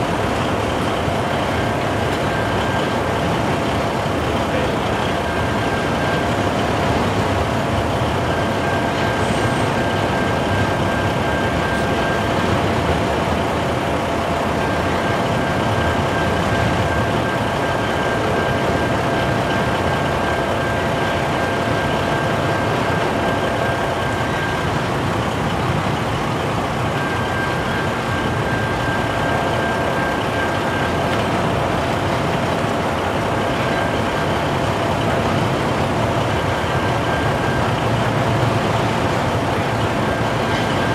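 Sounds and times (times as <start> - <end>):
freight train wheels roaring: 0.0 - 40.9
truck idling: 0.0 - 40.9.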